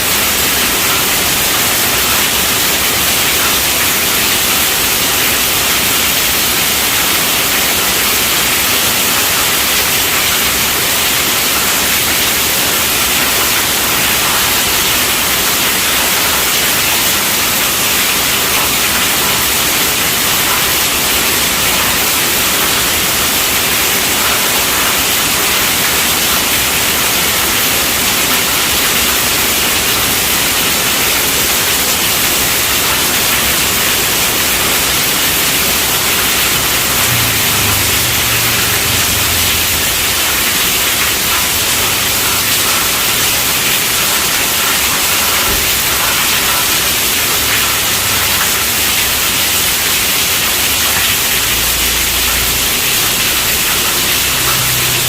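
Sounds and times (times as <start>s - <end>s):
steady rainfall hiss: 0.0s - 55.0s.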